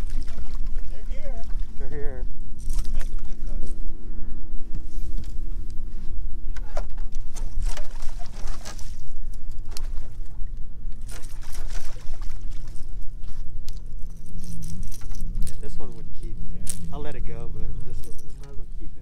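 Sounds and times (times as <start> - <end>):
faint hum: 0.0 - 19.0
steady low rumble: 0.0 - 19.0.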